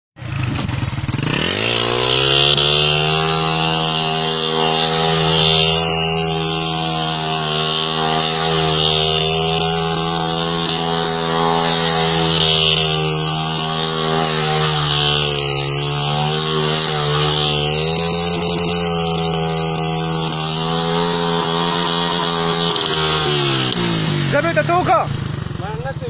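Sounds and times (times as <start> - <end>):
motorcycle engine revving: 0.2 - 26.0.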